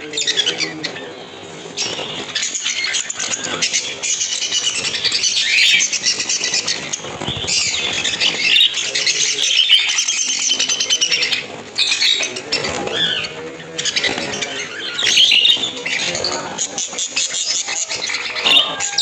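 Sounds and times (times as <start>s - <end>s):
budgerigars chattering: 0.0s - 19.0s.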